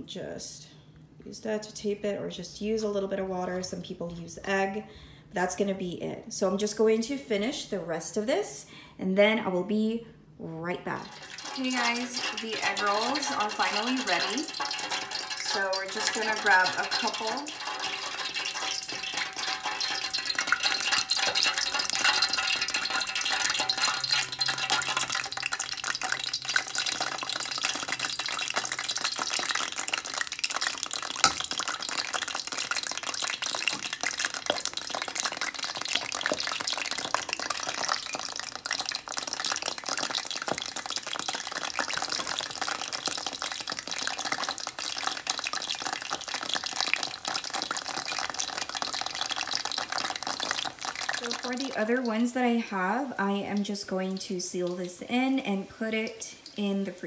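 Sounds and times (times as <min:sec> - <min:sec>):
oil sizzling and crackling: 0:10.8 - 0:57.0.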